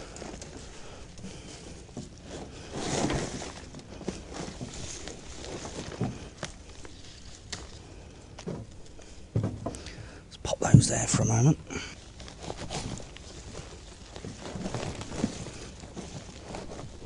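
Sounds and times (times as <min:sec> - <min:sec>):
hands digging through compost: 0:00.0 - 0:09.4, 0:11.8 - 0:17.0.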